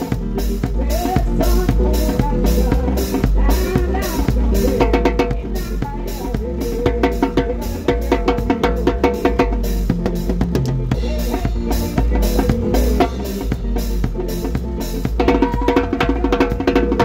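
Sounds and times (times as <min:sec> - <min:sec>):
band music: 0:00.0 - 0:17.0
bass drum: 0:00.0 - 0:17.0.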